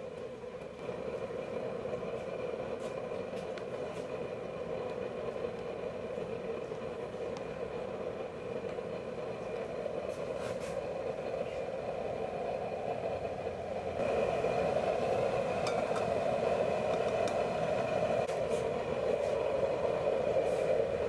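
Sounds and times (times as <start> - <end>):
oil stove roaring: 0.0 - 21.0.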